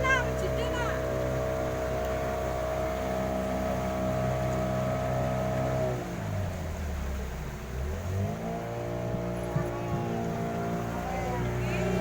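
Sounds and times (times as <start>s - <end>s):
small boat motor running: 0.0s - 12.0s.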